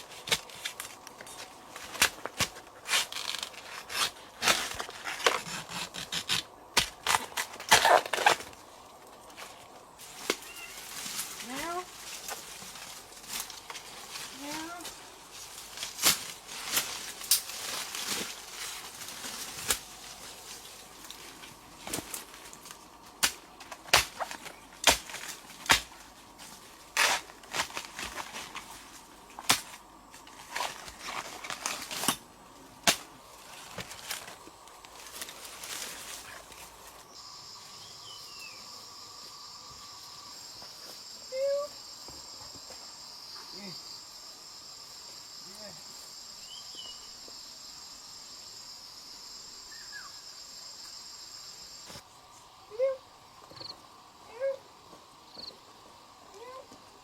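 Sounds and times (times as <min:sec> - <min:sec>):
high insect buzz: 0:09.4 - 0:57.0.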